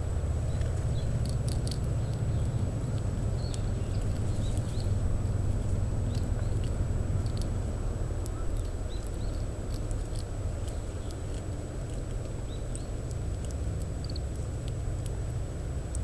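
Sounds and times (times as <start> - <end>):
low wind rumble: 0.0 - 16.0
seed shelling clicks: 0.5 - 7.6, 8.2 - 16.0.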